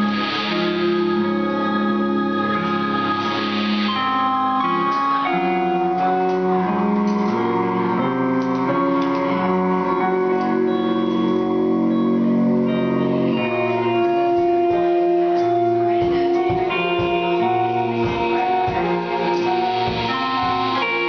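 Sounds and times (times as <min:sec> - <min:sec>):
looped electric guitar notes: 0:00.0 - 0:21.0.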